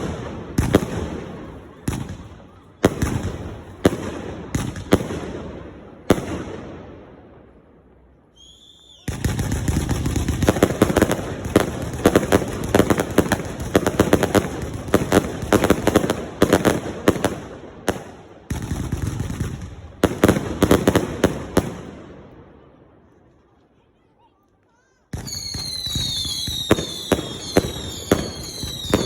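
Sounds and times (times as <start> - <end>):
fireworks banging and crackling: 0.0 - 8.1, 9.0 - 22.8, 25.1 - 29.0.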